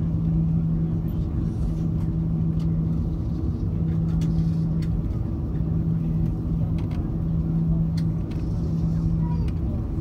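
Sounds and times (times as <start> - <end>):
jet engines rumbling in cabin: 0.0 - 10.0.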